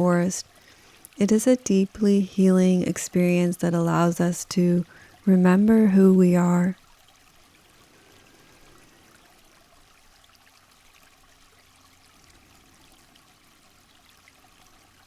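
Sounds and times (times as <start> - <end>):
faint trickle of water: 0.0 - 15.0.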